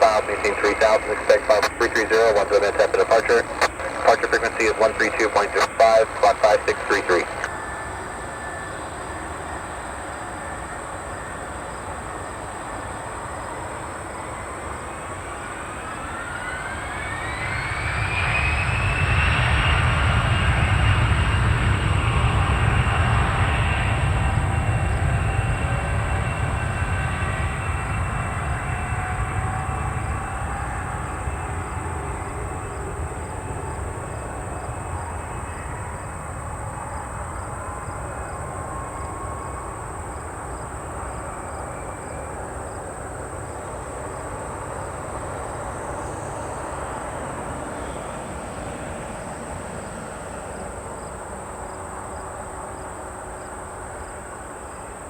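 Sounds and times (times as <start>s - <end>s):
jet engines rumbling and whining: 0.0s - 52.6s.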